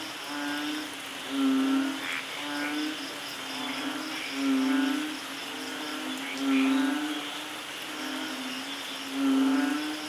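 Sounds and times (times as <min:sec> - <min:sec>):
insects chirring: 0:00.0 - 0:10.0
rain hiss: 0:00.0 - 0:10.0.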